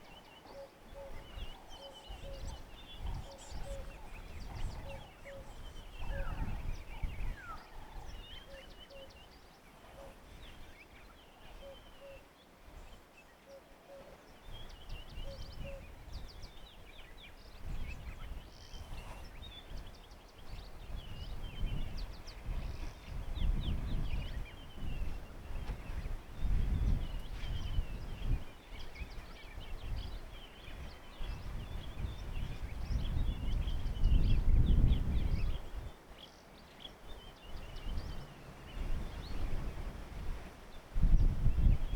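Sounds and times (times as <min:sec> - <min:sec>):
wind buffeting microphone: 0:00.9 - 0:08.6, 0:14.4 - 0:36.2, 0:36.8 - 0:41.9.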